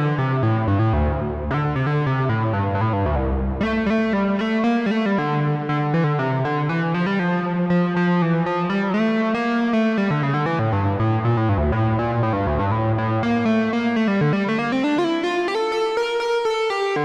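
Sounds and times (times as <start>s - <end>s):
analog synthesizer notes: 0.0s - 17.0s.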